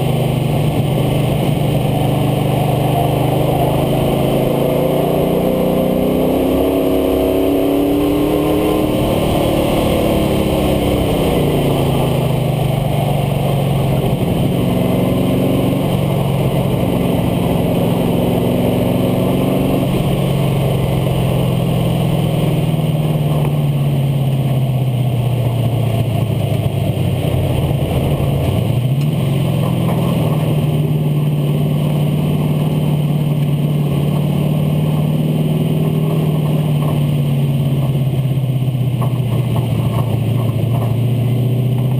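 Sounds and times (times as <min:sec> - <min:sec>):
road and wind noise: 0:00.0 - 0:41.9
truck engine running: 0:00.0 - 0:41.9.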